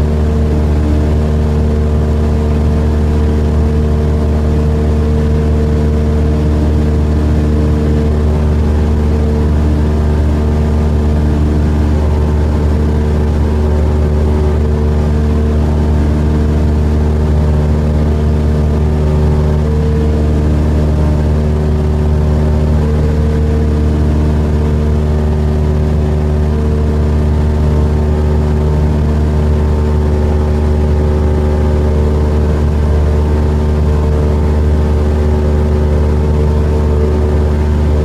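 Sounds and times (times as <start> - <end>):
aircraft engine droning in cabin: 0.0 - 38.0.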